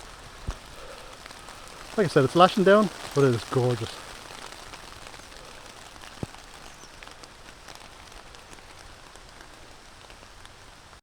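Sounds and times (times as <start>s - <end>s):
heavy rain hissing: 0.0s - 11.0s
raindrop ticks: 0.0s - 11.0s.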